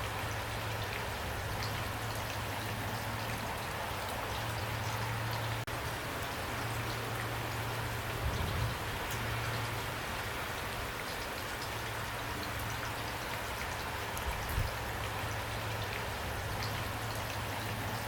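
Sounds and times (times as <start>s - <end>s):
steady rain with drop hits: 0.0s - 18.0s.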